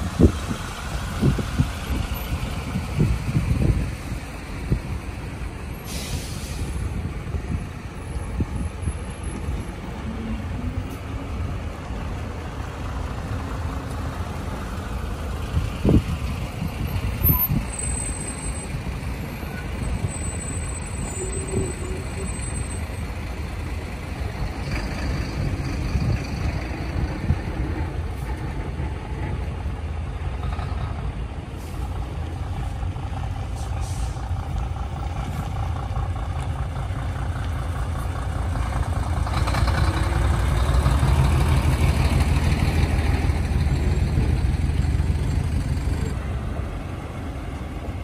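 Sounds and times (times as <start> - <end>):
diesel truck engines rumbling: 0.0 - 48.0.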